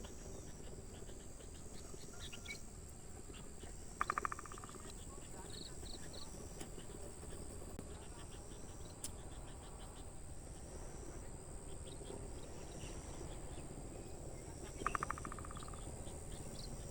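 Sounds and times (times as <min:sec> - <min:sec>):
rapid rattling call: 0:00.0 - 0:11.1, 0:14.4 - 0:16.9
insects chirping and trilling: 0:00.0 - 0:16.9.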